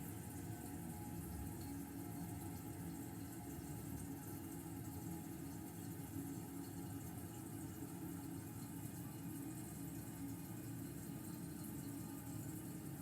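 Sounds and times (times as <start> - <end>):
toilet tank refilling: 0.0 - 13.0.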